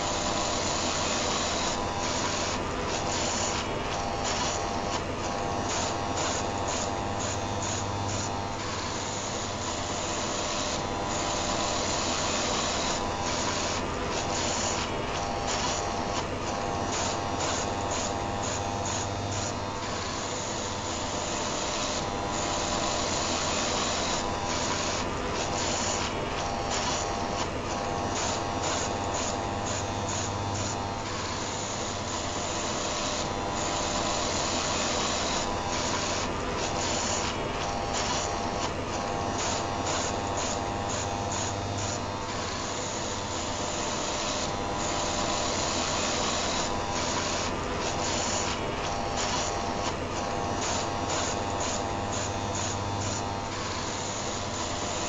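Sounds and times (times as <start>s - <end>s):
electric shaver buzzing: 0.0s - 55.0s.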